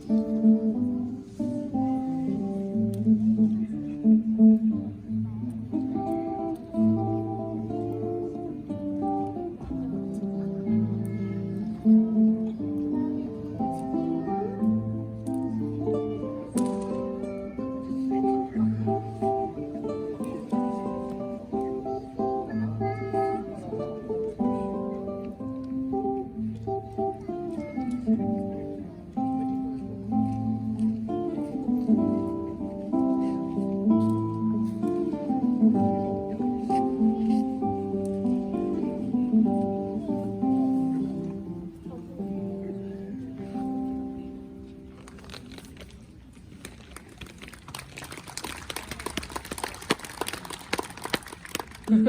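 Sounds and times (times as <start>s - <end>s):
acoustic guitar chords: 0.0s - 44.8s.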